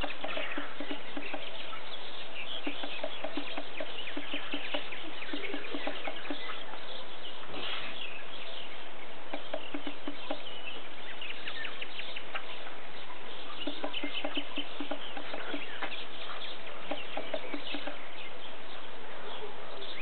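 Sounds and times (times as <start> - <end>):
background hiss: 0.0 - 20.0
birds calling: 0.0 - 20.0.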